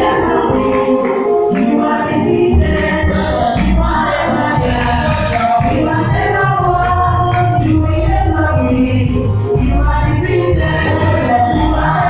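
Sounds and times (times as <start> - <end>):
choir singing gospel: 0.0 - 12.0.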